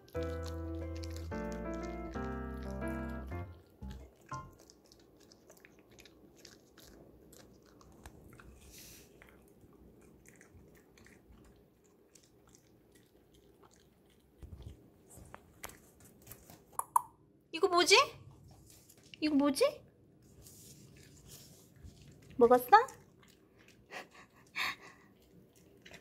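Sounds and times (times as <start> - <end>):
dog chewing a treat: 0.0 - 16.7, 20.3 - 26.0.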